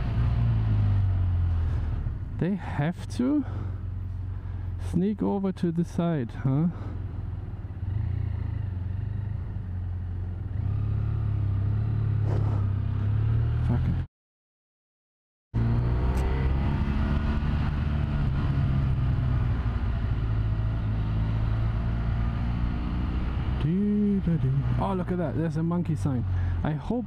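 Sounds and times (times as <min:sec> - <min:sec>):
motorcycle engine at low revs: 0:00.0 - 0:14.1, 0:15.6 - 0:27.0.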